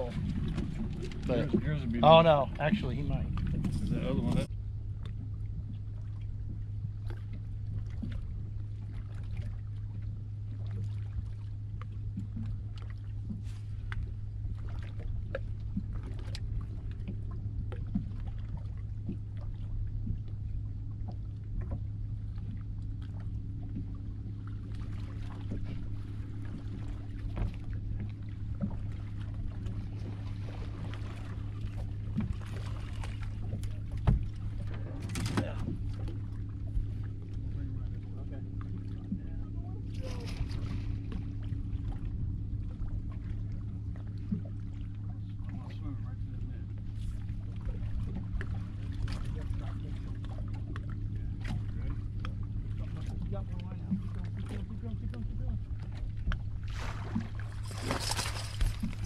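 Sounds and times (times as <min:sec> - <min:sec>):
low boat hum: 0:00.0 - 0:59.0
water lapping against hull: 0:00.0 - 0:59.0.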